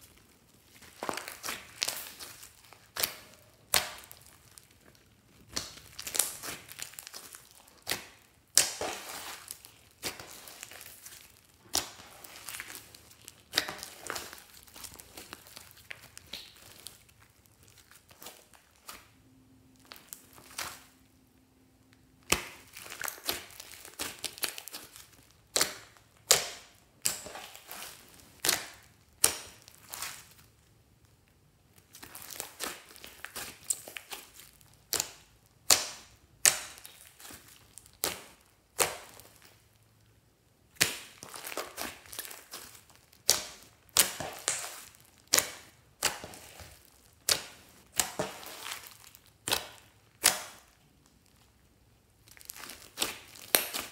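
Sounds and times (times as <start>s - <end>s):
slime popping and crackling: 0.0s - 21.2s, 21.8s - 39.8s, 40.6s - 53.9s.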